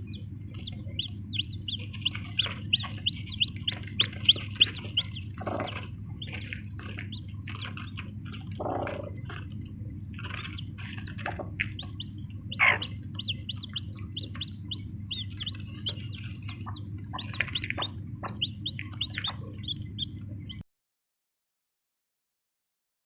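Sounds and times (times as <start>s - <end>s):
chicks peeping: 0.0s - 20.6s
hen clucking: 0.0s - 20.6s.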